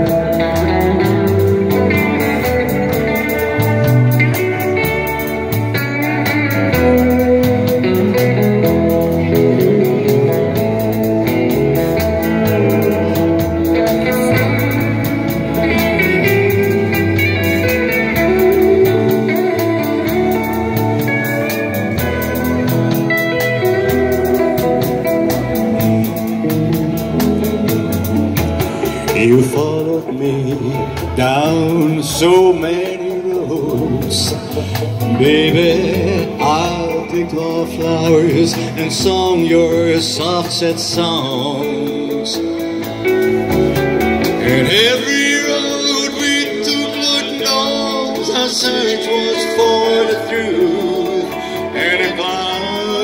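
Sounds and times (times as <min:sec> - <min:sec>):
bass line: 0:00.0 - 0:53.0
drums: 0:00.0 - 0:53.0
electric guitar melody: 0:00.0 - 0:53.0.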